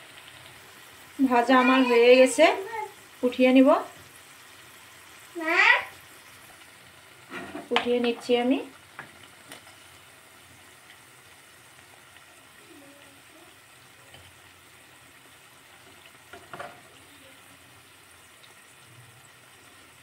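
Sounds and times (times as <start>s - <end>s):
fritters sizzling in hot oil: 0.0s - 20.0s.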